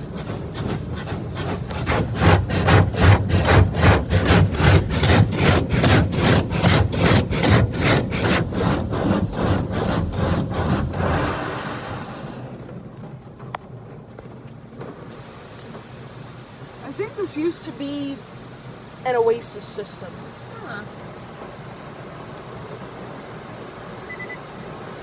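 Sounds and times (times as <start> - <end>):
spray jets beating on car: 0.0 - 25.0.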